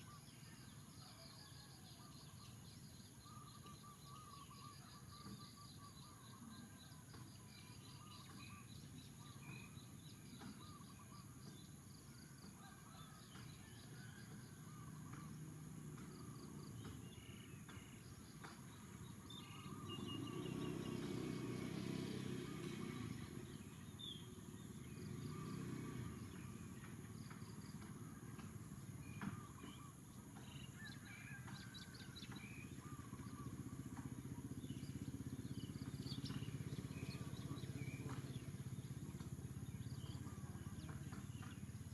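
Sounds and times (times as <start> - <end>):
small birds chirping: 2.0 - 11.9, 13.3 - 41.9.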